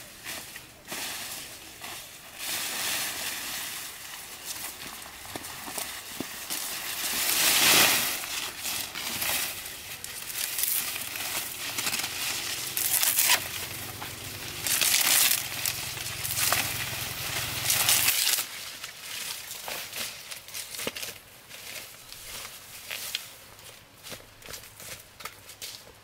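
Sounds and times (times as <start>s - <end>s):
grass stalks rustling and snapping: 0.0s - 25.9s.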